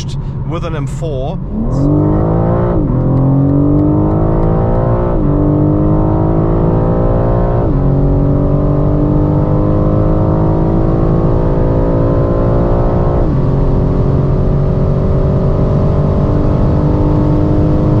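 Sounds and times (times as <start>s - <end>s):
car engine accelerating through gears: 1.4s - 18.0s.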